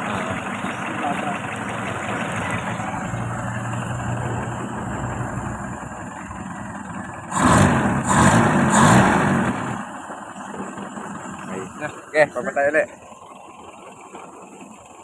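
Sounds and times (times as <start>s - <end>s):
engine revving: 0.0s - 12.9s
engine idling rough: 0.0s - 15.0s.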